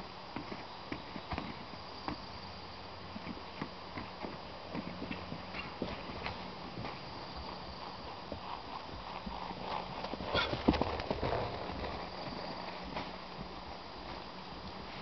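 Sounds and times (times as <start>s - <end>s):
horse hoofbeats on grass: 0.0s - 15.0s.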